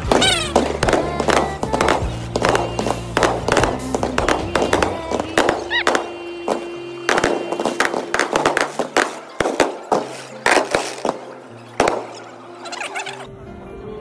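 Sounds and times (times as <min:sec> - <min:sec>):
fireworks bangs and crackles: 0:00.0 - 0:12.8.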